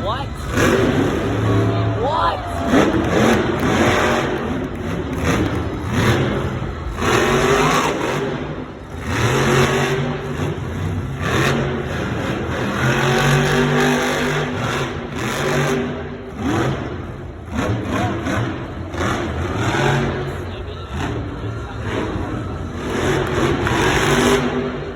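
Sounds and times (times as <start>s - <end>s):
truck engine revving hard: 0.0s - 24.9s.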